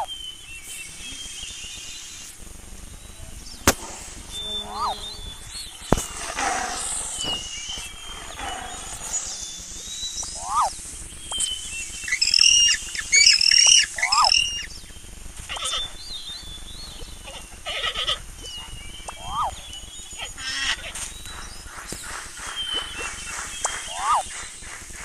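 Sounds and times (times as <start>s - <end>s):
birdsong: 0.0s - 25.0s
high chattering calls: 0.0s - 25.0s.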